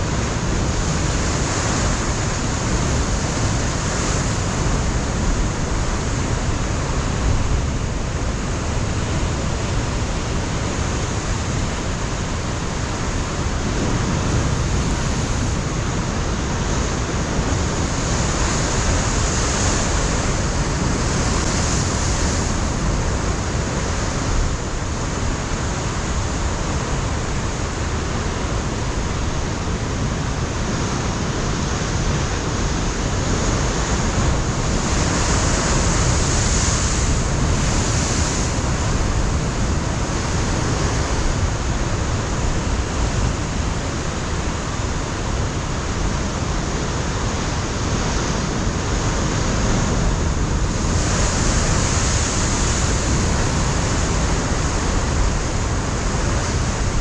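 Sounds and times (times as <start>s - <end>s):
wind buffeting microphone: 0.0s - 57.0s
surf breaking on rocky shore: 0.1s - 57.0s.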